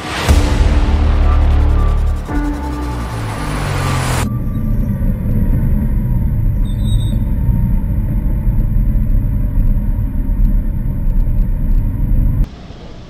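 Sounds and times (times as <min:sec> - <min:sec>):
vehicle engine rumbling: 0:00.0 - 0:12.5.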